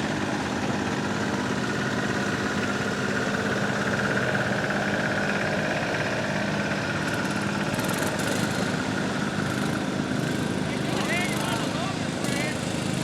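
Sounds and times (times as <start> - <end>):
garden tractor engine running: 0.0 - 13.0.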